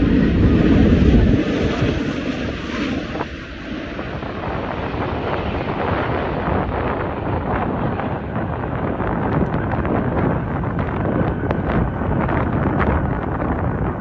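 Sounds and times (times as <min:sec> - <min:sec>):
low jet aircraft rumble: 0:00.0 - 0:14.0
wind buffeting microphone: 0:00.0 - 0:14.0.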